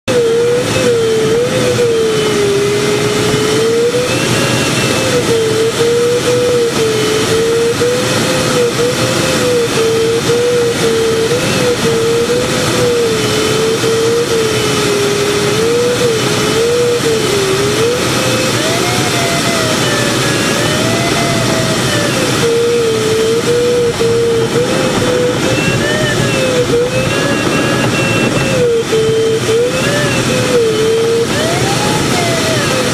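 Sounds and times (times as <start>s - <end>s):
variometer tone wavering: 0.0s - 32.9s
airflow rushing over canopy: 0.1s - 32.9s.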